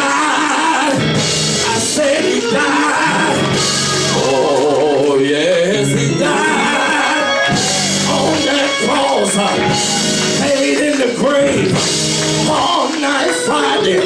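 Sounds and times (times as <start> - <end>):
live band with drums: 0.0 - 14.0
preacher singing: 0.0 - 14.0.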